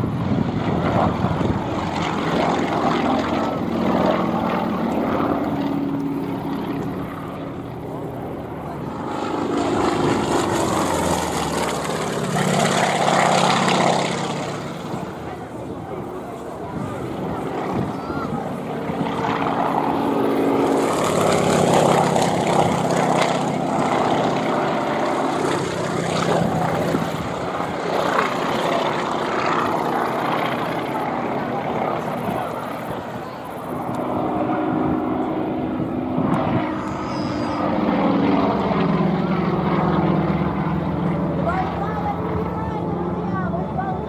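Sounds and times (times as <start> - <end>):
propeller planes droning overhead: 0.0 - 44.0.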